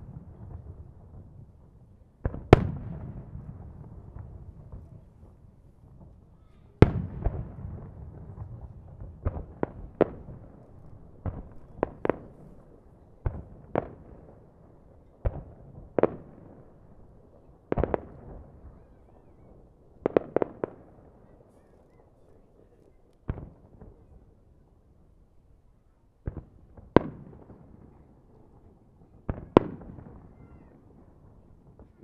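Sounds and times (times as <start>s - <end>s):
fireworks bangs with echo: 0.0s - 17.0s, 17.7s - 22.0s, 23.2s - 24.3s, 26.2s - 32.0s.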